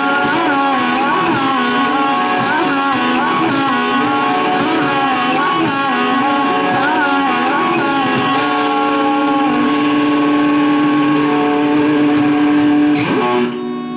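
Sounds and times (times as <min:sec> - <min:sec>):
live rock band playing: 0:00.0 - 0:13.5
electric guitar bending notes: 0:00.0 - 0:13.9
ringing guitar chord: 0:00.0 - 0:13.9.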